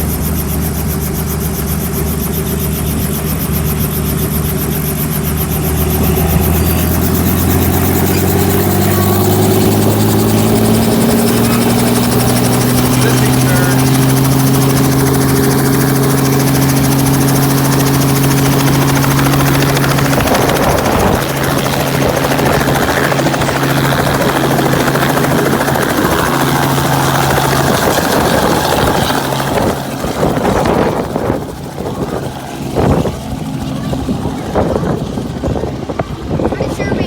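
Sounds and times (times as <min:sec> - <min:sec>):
helicopter running: 0:00.0 - 0:37.0.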